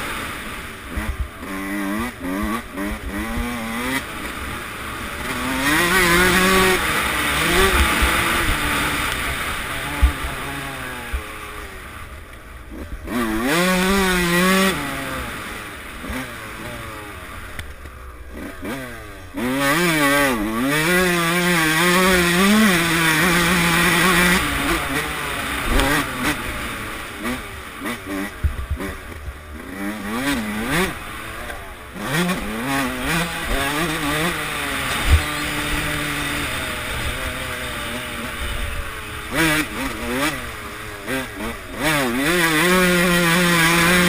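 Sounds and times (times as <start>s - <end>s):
motocross engine revving: 0.0s - 44.0s.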